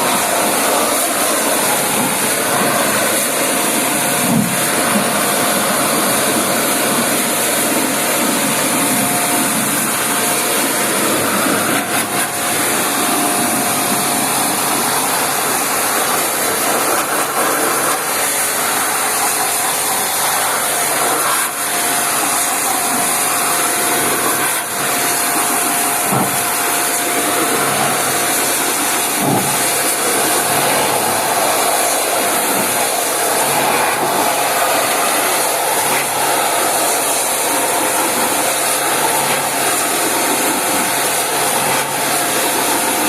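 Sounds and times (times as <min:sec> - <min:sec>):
pressure washer jet hissing: 0:00.0 - 0:43.0.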